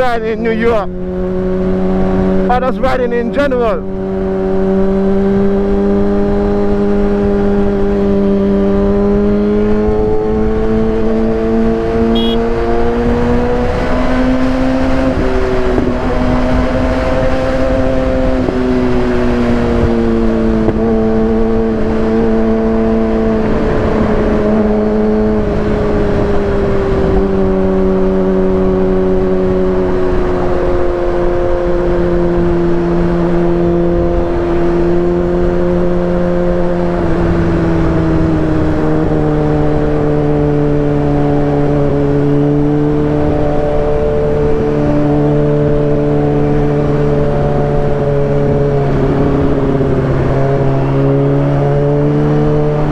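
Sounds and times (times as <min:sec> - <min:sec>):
motorcycle engine running: 0:03.8 - 0:52.9.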